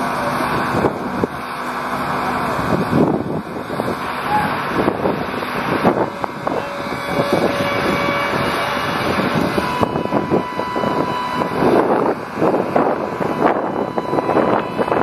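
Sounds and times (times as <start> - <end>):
faint machinery whines: 0.0 - 15.0
wind buffeting microphone: 0.4 - 1.8, 2.5 - 15.0.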